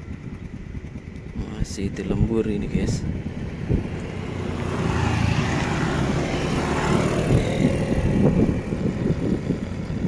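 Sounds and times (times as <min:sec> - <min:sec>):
motor engine noise: 0:00.0 - 0:10.0
steady rumble: 0:00.0 - 0:10.0.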